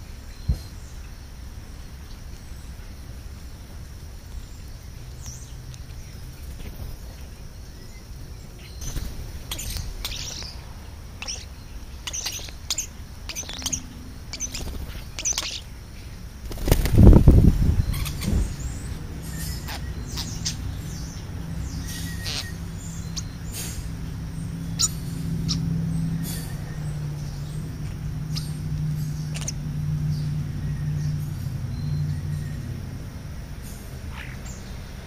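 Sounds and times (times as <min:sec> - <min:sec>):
birds chirping: 0:00.0 - 0:35.0
low background hum: 0:00.0 - 0:35.0.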